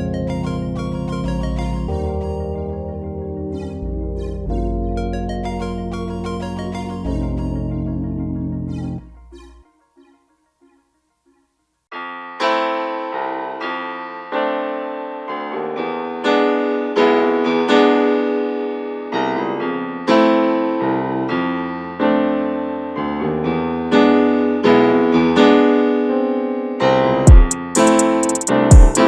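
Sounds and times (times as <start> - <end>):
solo piano melody: 0.0 - 29.0.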